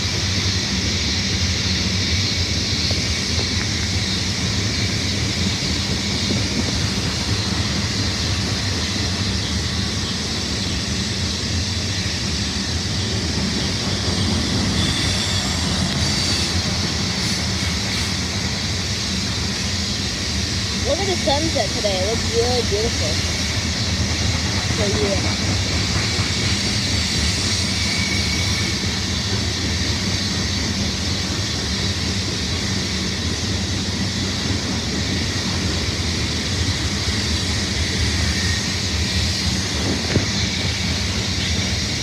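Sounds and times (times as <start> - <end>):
train cars rumbling past: 0.0 - 42.0
wheels rushing on track: 0.0 - 42.0.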